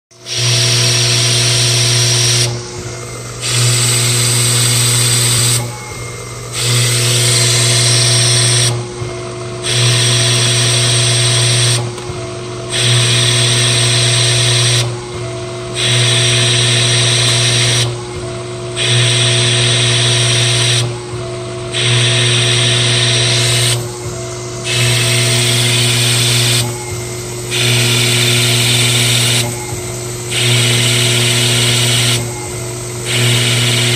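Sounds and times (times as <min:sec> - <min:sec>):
lathe machine whine: 0:00.1 - 0:33.9.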